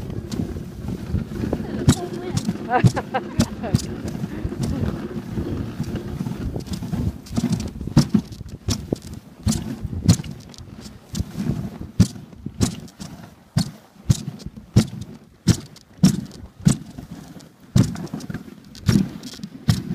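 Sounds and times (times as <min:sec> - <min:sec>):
sled knocks and rattles: 0:00.0 - 0:19.9
sled runners scraping on snow: 0:00.0 - 0:19.9.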